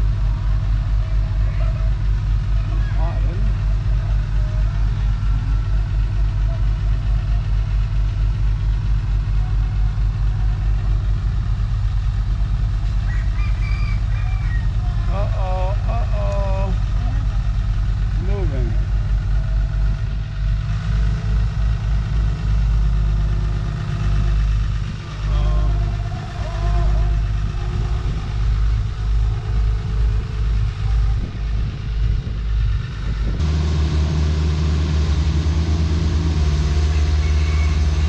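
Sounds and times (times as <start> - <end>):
excavator diesel engine droning: 0.0 - 38.0.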